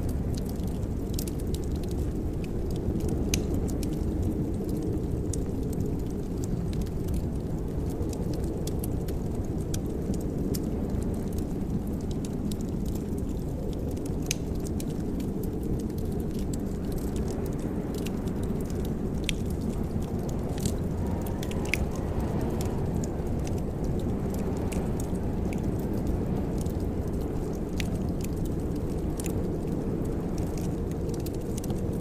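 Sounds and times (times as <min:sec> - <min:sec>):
fire popping and snapping: 0:00.0 - 0:32.0
low rush of flames: 0:00.0 - 0:32.0
wood fire crackling: 0:00.0 - 0:32.0.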